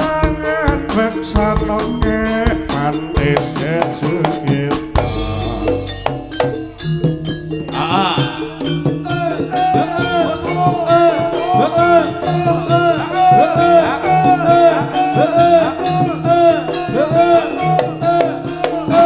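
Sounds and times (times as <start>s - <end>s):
gong and drum ensemble: 0.0s - 19.0s
swooping melody line: 0.0s - 19.0s.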